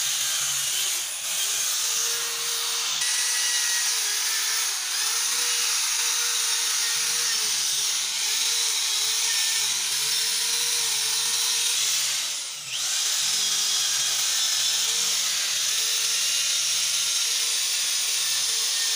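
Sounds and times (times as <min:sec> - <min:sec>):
power tool high whine: 0:00.0 - 0:18.9.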